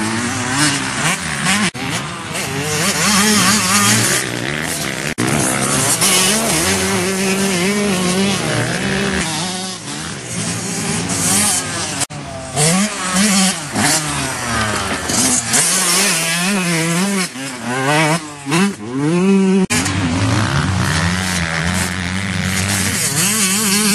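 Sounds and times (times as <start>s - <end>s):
motocross engine revving: 0.0s - 23.9s.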